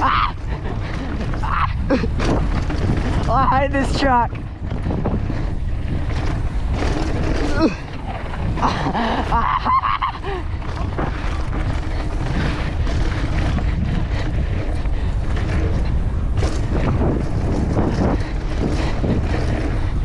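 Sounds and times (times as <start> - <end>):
bike knocking over bumps: 0.0 - 20.0
tyres rolling on dirt: 0.0 - 20.0
wind over microphone: 0.0 - 20.0.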